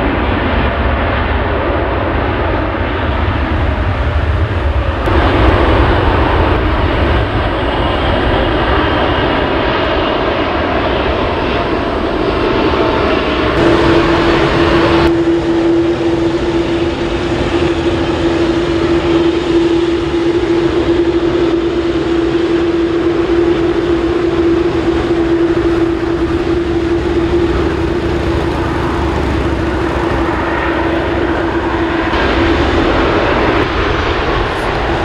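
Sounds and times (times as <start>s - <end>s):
jet engines whining and rumbling: 0.0s - 35.0s.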